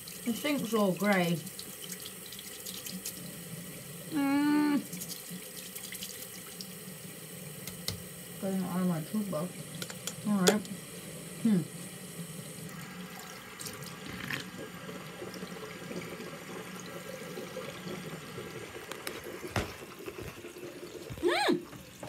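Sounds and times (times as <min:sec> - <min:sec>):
tap water running: 0:00.0 - 0:22.0.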